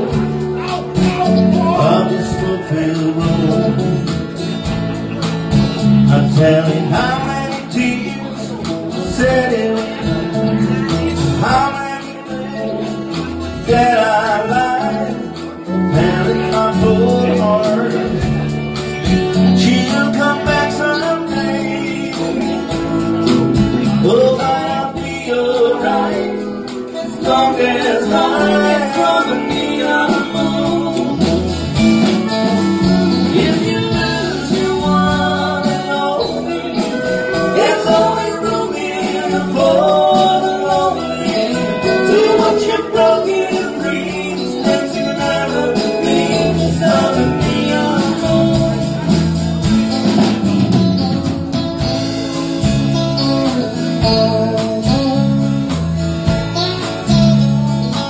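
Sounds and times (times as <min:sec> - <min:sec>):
country band playing slow song: 0:00.0 - 0:58.0
pedal steel guitar: 0:00.0 - 0:58.0.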